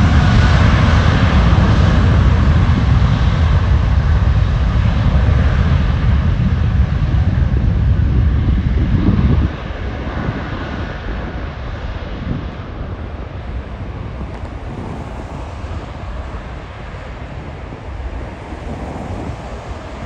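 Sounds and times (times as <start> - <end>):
jet airliner roar: 0.0 - 20.0
wind buffeting microphone: 0.0 - 20.0.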